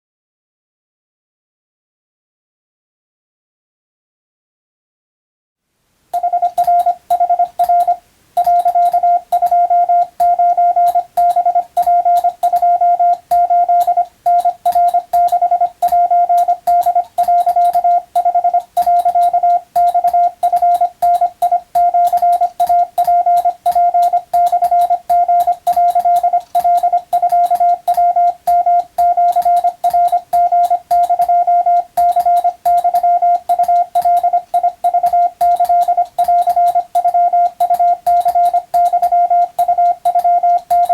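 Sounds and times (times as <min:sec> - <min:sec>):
morse code beeps: 0:06.2 - 0:40.9.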